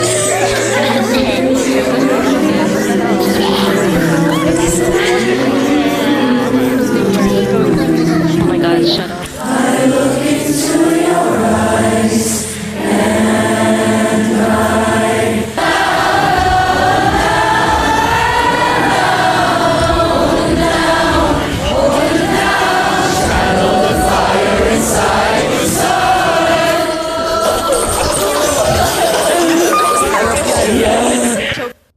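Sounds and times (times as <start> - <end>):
choir singing long notes: 0.0 - 31.8.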